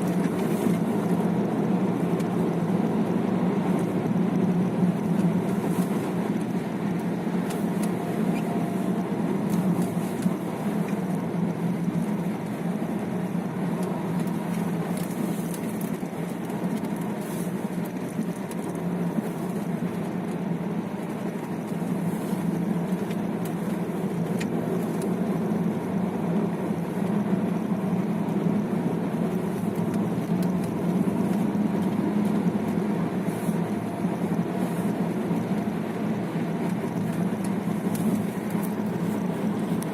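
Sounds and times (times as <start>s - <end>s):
car engine hum: 0.0s - 39.9s
tyre road noise: 0.0s - 39.9s.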